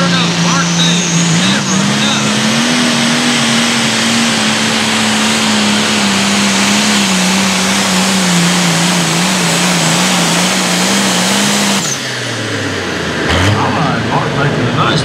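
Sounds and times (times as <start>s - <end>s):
diesel engine at full throttle: 0.0s - 15.0s.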